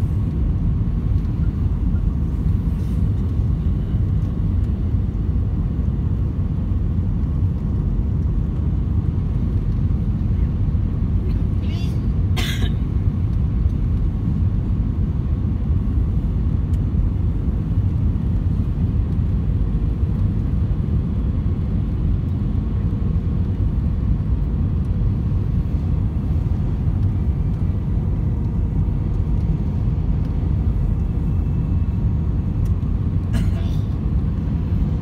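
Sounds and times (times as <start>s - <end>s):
engine and airflow rumble: 0.0s - 35.0s.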